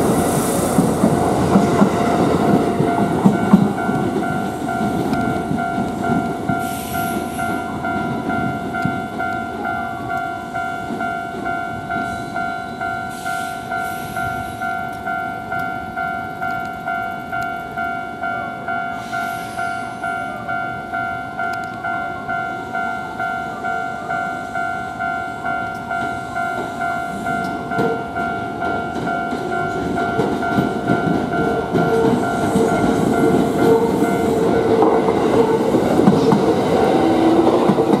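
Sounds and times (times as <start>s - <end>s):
electric train running: 0.0s - 17.5s, 21.5s - 38.0s.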